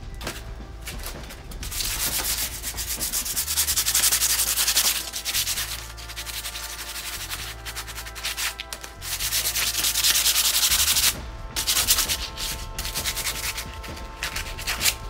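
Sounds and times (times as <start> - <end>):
sandpaper rasping on metal: 0.8 - 15.0.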